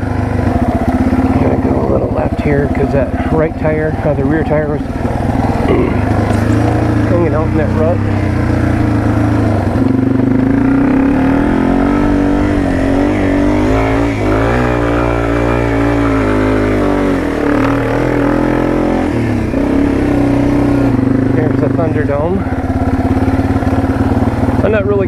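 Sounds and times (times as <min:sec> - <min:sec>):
motorcycle engine under load: 0:00.0 - 0:25.0.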